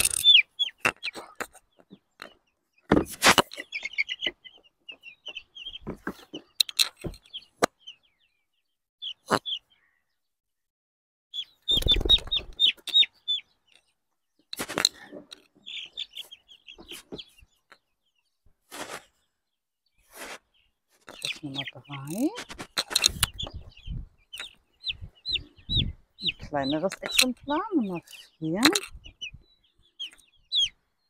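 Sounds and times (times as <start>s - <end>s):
chicks peeping: 0.0s - 10.2s, 11.4s - 19.2s, 20.0s - 31.0s.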